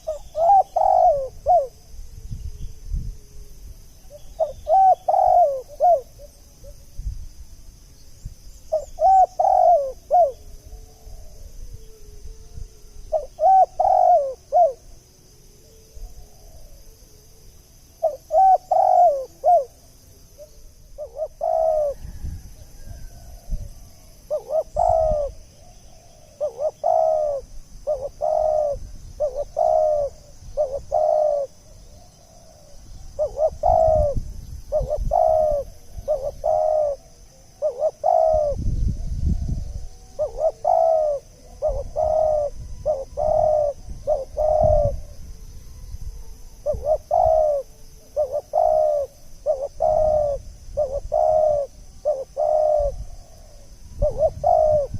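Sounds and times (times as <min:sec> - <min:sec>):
dove cooing: 0:00.0 - 0:02.0, 0:04.1 - 0:06.8, 0:08.7 - 0:54.9.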